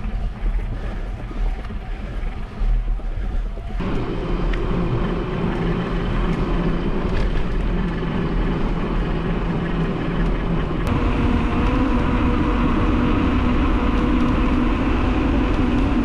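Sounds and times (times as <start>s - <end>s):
bicycle tyres humming on asphalt: 0.0s - 16.0s.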